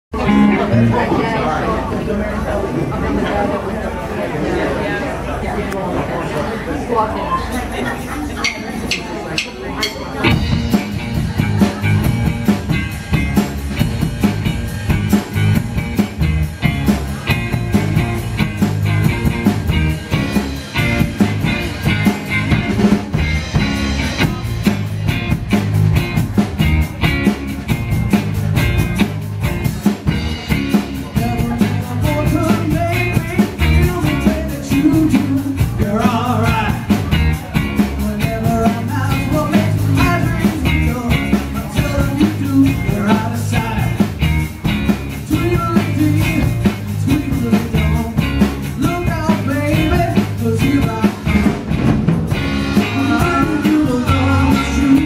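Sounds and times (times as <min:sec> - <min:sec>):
bass guitar: 0:00.1 - 0:03.0, 0:07.7 - 0:55.0
electric guitar: 0:00.2 - 0:01.3, 0:10.2 - 0:55.0
drum kit beat: 0:08.4 - 0:55.0.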